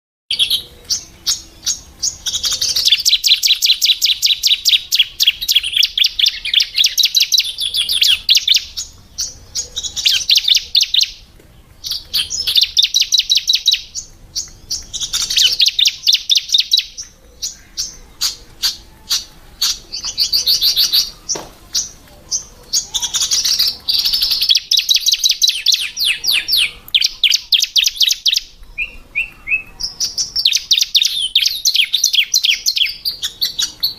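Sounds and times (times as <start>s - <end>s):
bird chirping high and sharp: 0.3s - 33.9s.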